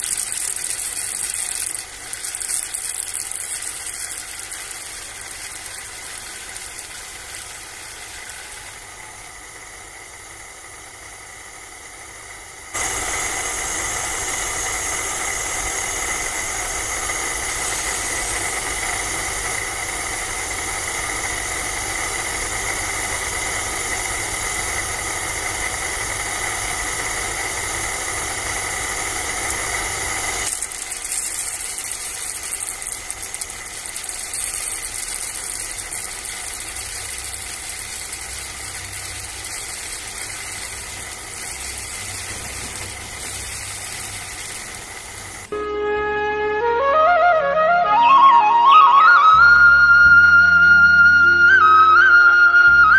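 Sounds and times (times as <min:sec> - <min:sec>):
small electric motor whirring: 0:00.0 - 0:11.1, 0:12.6 - 0:45.6.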